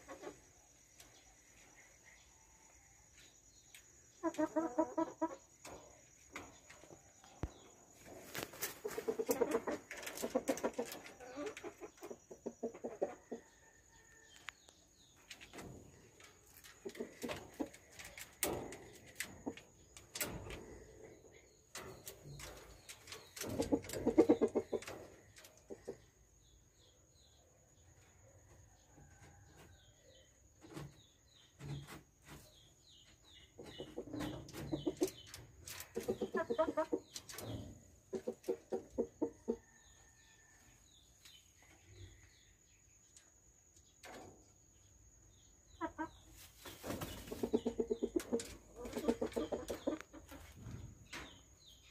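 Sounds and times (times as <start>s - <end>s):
chickens clucking: 0.0s - 2.4s, 3.2s - 26.9s, 30.6s - 40.2s, 41.2s - 51.9s.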